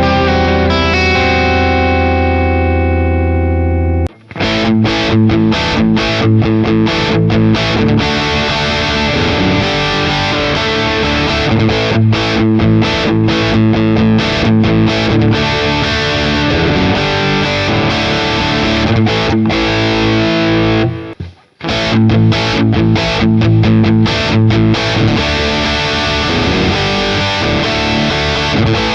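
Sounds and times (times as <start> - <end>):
distorted electric guitar riff: 0.0 - 28.9.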